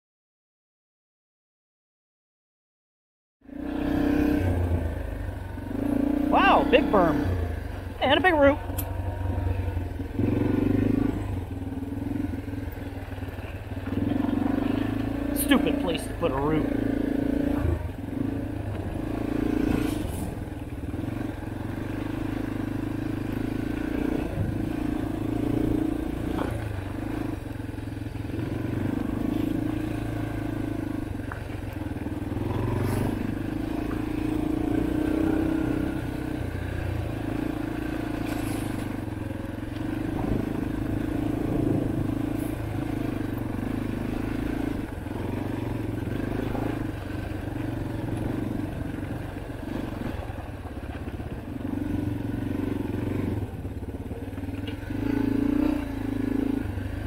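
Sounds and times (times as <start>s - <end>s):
dirt bike engine revving: 3.4s - 57.0s.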